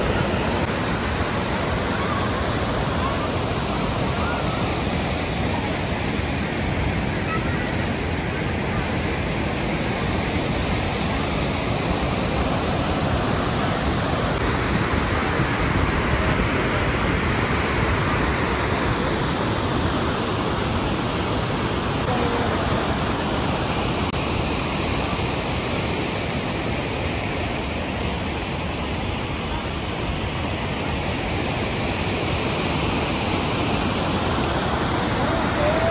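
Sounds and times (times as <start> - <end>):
rush of falling water: 0.0 - 35.9.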